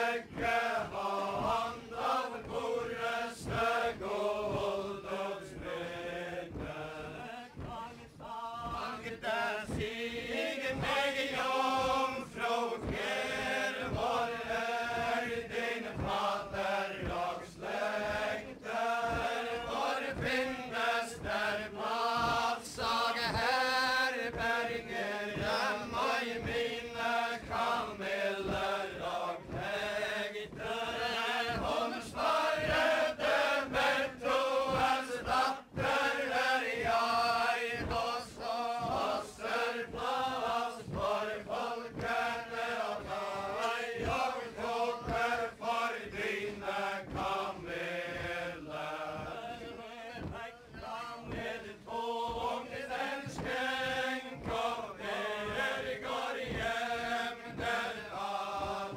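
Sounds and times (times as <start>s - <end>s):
dancers' feet thudding: 0.0s - 58.9s
group singing in unison: 0.0s - 58.9s.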